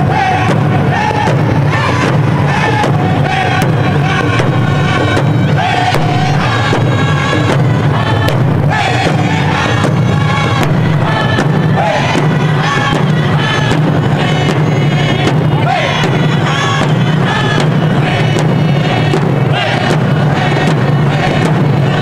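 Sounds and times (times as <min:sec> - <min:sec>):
frame drums struck with beaters: 0:00.0 - 0:22.0
group singing in unison: 0:00.0 - 0:22.0.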